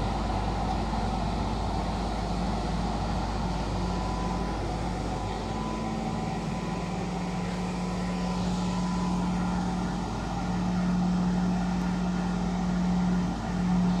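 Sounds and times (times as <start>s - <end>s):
scanner machine hum: 0.0s - 14.0s.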